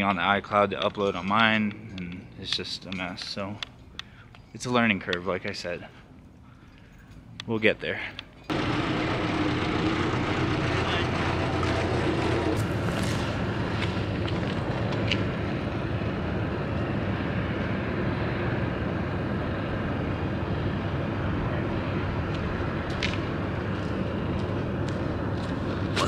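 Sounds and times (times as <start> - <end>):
rushing outdoor background noise: 0.0 - 26.0.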